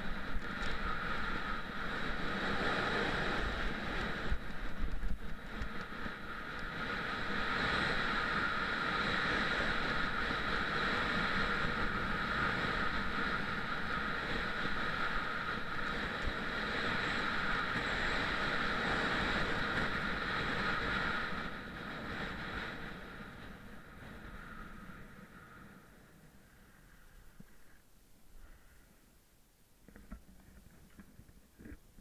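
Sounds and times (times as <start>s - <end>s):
wind rushing past microphone: 0.0s - 27.5s.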